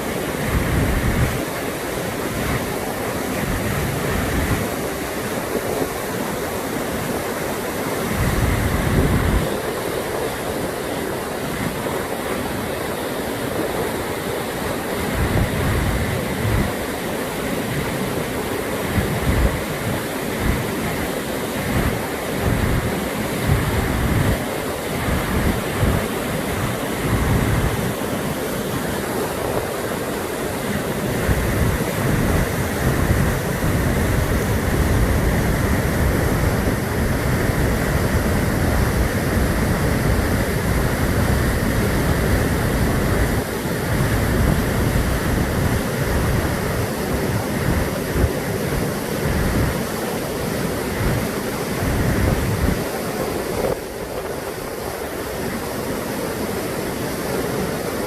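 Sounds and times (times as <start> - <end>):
waterfall rushing: 0.0 - 58.0
wind buffeting microphone: 0.1 - 7.1, 7.8 - 55.6.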